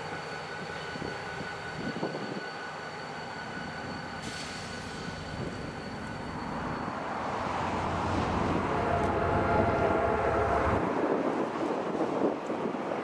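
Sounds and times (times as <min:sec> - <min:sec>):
diesel locomotive engine rumble: 0:00.0 - 0:13.0
train approaching: 0:00.0 - 0:13.0.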